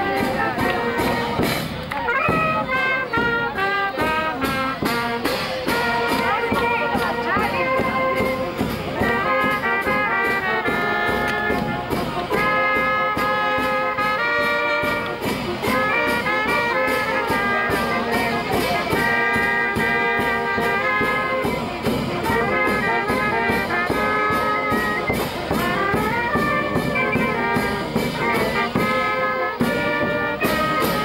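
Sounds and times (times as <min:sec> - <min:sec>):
brass band playing: 0:00.0 - 0:31.0.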